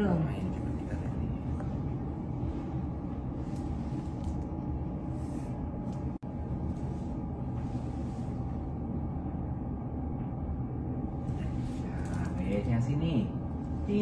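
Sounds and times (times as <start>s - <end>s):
faint constant hum: 0.0s - 14.0s
low indoor rumble: 0.0s - 14.0s.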